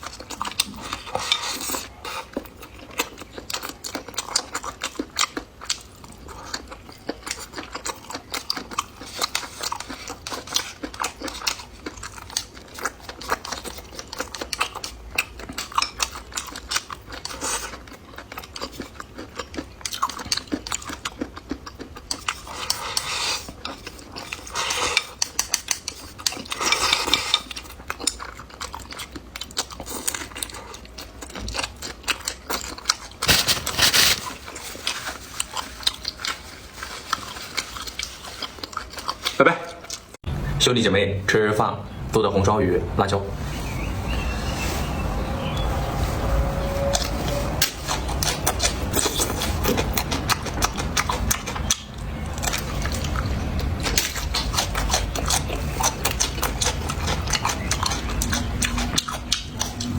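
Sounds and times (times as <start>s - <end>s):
crunchy chewing: 0.0s - 40.2s, 43.6s - 59.9s.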